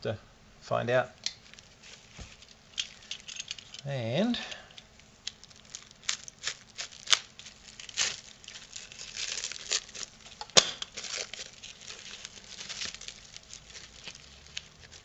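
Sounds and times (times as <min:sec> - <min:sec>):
plastic wrap crinkling and tearing: 0:01.3 - 0:15.0.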